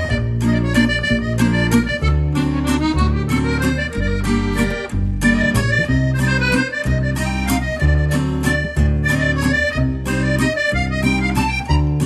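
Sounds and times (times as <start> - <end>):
bouncy instrumental tune: 0.0 - 12.0.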